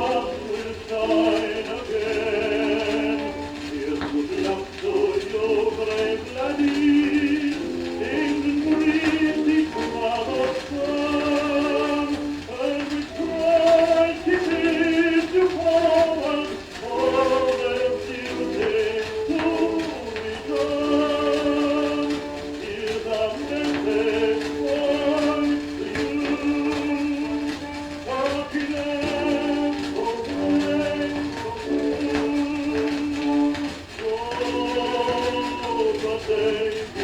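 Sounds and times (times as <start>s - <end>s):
man singing with accompaniment: 0.0s - 37.0s
record surface crackle: 0.0s - 37.0s.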